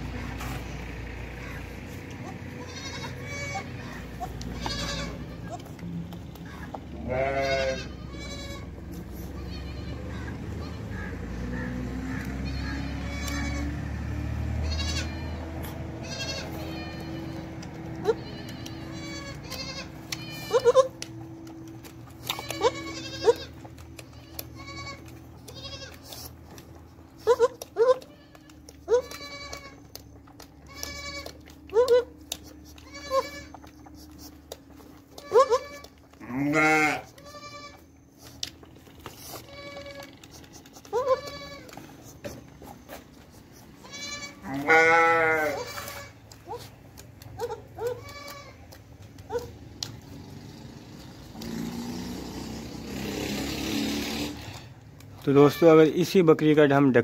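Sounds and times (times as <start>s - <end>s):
goats bleating: 0.2s - 38.0s, 39.0s - 48.8s, 54.5s - 56.2s.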